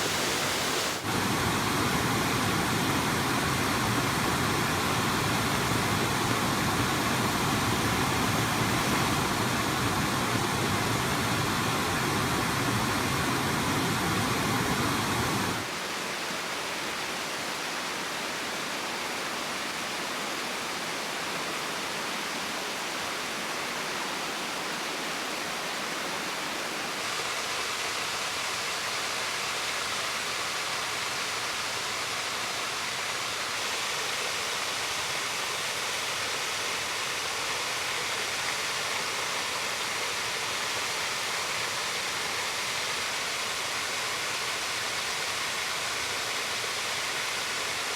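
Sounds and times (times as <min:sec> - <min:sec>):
waterfall rushing and splashing: 0:00.0 - 0:47.9.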